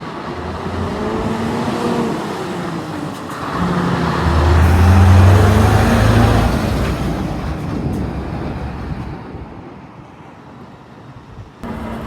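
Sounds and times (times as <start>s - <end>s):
heavy truck engine passing: 0.0s - 9.7s, 11.6s - 12.0s
traffic noise: 0.0s - 12.0s.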